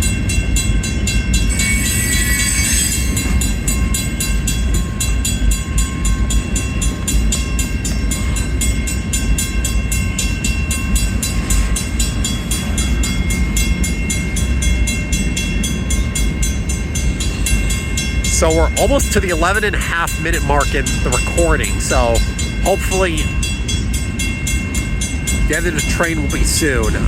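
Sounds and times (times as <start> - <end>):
crossing bell ringing: 0.0 - 27.0
freight train rumbling: 0.0 - 27.0.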